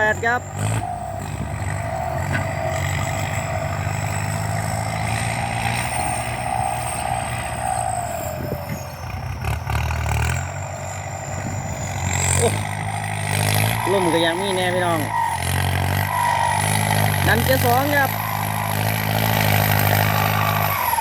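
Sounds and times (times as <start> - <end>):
diesel tractor engine under load: 0.0 - 21.0
high turbo whistle: 0.4 - 21.0.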